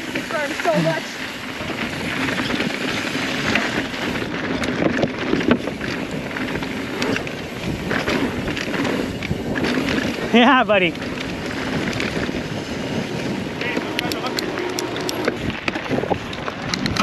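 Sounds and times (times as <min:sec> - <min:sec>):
bike knocks and rattles: 0:00.0 - 0:17.0
bike tyres on dirt trail: 0:00.0 - 0:17.0
wind on microphone: 0:00.0 - 0:17.0.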